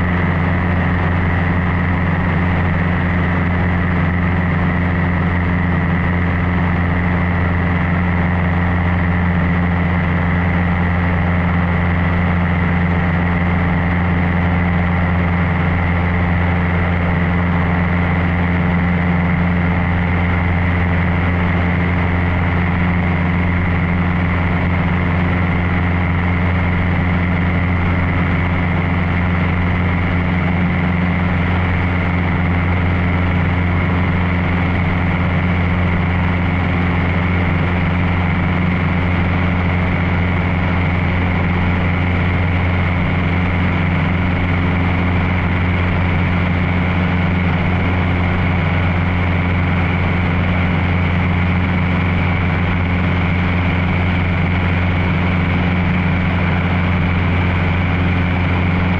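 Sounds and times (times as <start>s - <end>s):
airplane engine and propeller droning: 0.0s - 58.9s.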